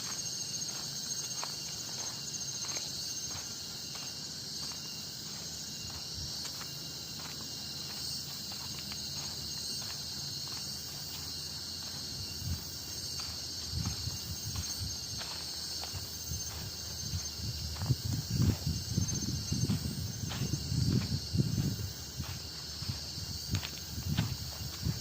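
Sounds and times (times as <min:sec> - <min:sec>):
footsteps on trail: 0:00.0 - 0:25.0
forest insects chorus: 0:00.0 - 0:25.0.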